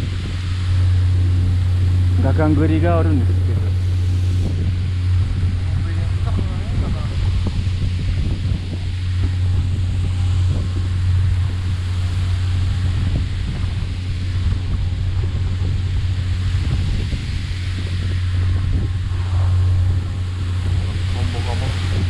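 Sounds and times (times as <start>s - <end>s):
boat engine drone: 0.0s - 22.0s
water splashing along hull: 0.0s - 22.0s
wind buffeting microphone: 0.0s - 22.0s.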